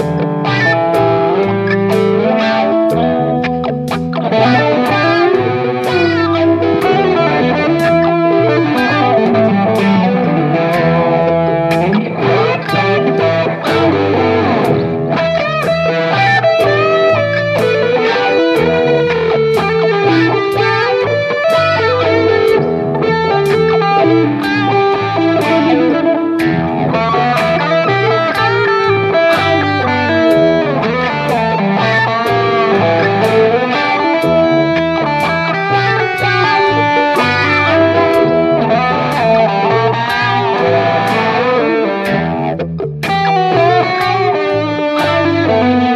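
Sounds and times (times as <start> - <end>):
bass line: 0.0 - 45.9
distorted electric guitar lead: 0.0 - 45.9
steady drum beat: 0.0 - 45.9.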